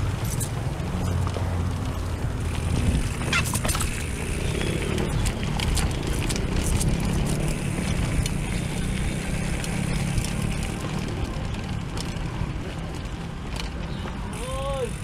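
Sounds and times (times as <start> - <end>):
wind rumble on microphone: 0.0 - 14.7
bike clicks and rattles: 0.0 - 15.0
bike tyres on dirt and leaves: 0.0 - 15.0.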